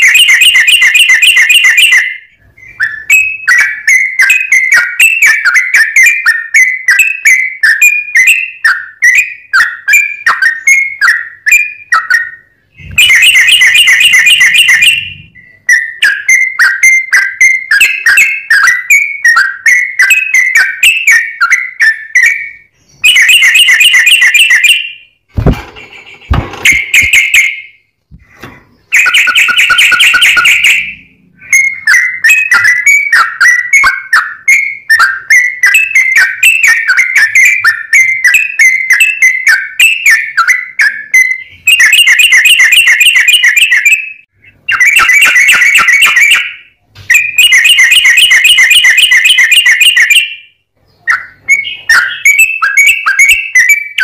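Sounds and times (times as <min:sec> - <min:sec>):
bird singing trilled phrases: 0:00.0 - 0:27.9, 0:28.7 - 0:54.0.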